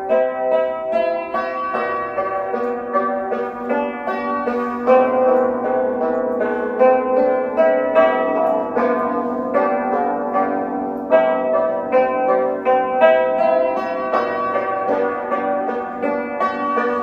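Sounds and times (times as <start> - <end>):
hammered dulcimer melody: 0.0 - 17.0.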